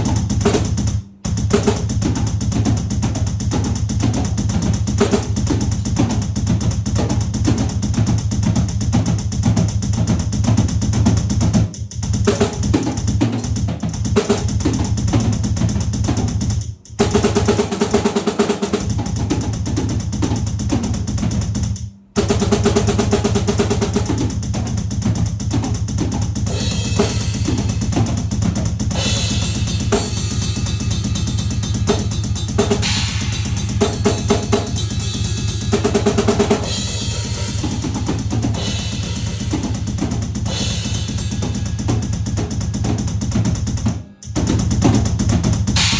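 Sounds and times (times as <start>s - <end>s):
drum kit bass drum and snare: 0.0s - 45.9s.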